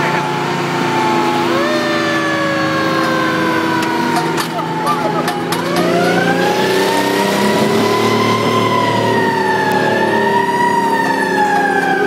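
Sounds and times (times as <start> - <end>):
fire truck siren wailing: 0.0 - 12.0
truck engine running: 0.0 - 12.0.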